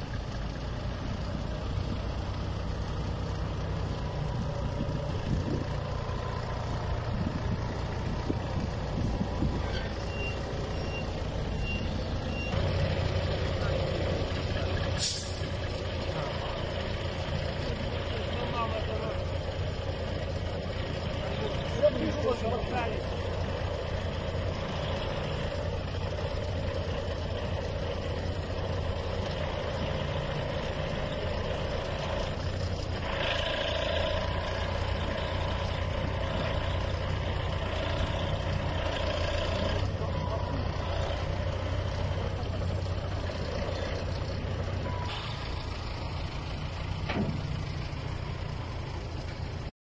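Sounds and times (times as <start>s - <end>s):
truck engine running: 0.0s - 49.7s.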